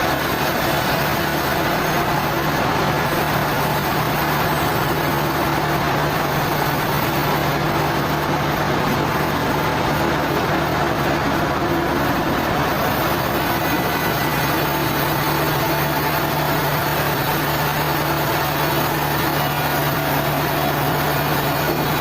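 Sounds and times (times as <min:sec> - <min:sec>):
heavy machinery droning: 0:00.0 - 0:22.0.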